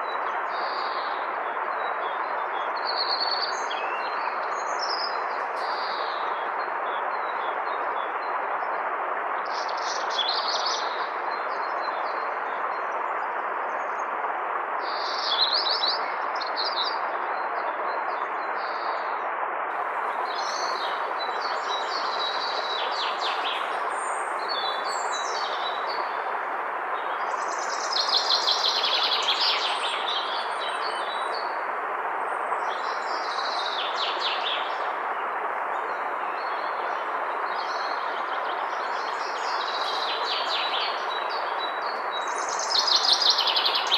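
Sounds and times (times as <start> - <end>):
songbirds chirping: 0.0 - 19.2, 19.8 - 43.9
river water rushing: 0.0 - 43.9.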